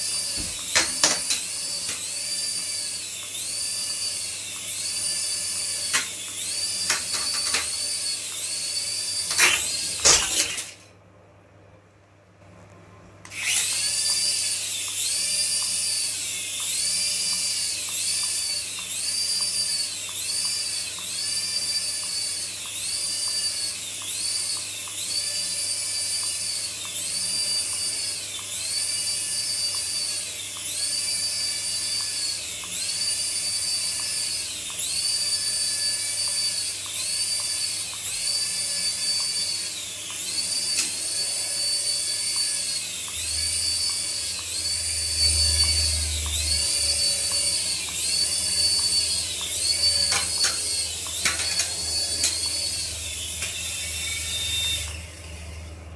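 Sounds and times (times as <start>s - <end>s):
toy electric motor whining: 0.0s - 10.9s, 13.2s - 55.9s.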